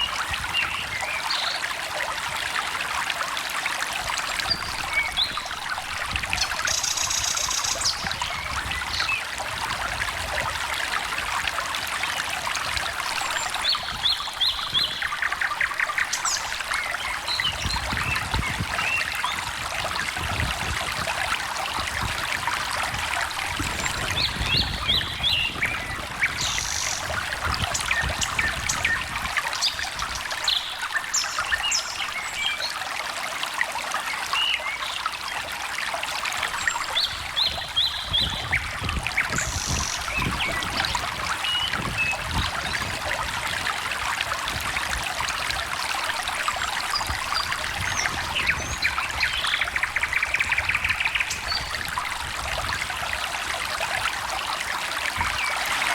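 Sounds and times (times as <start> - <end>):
stream trickling and babbling: 0.0 - 55.9.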